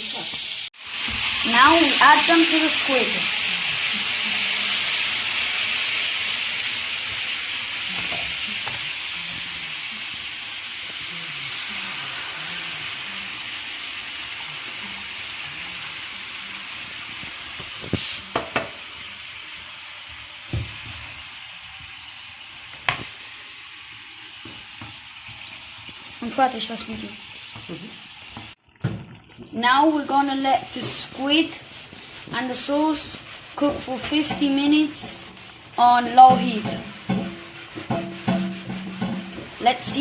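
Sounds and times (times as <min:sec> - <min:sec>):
squid sizzling in a pan: 0:00.0 - 0:28.6, 0:29.2 - 0:40.0.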